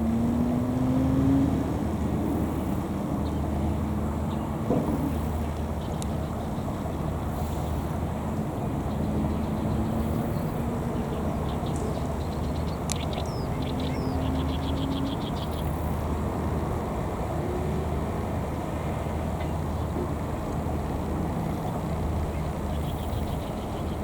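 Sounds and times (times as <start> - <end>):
constant hum: 0.0 - 24.0
low outdoor rumble: 0.0 - 24.0.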